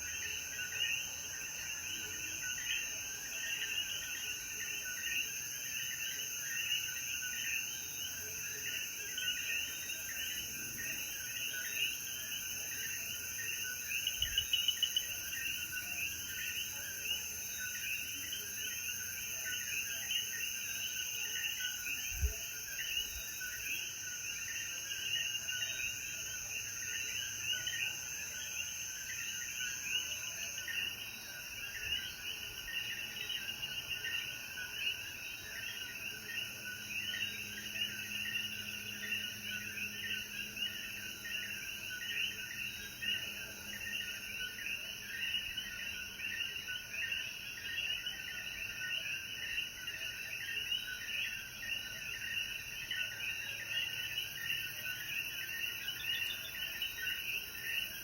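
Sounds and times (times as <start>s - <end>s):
frogs chirping: 0.0s - 58.0s.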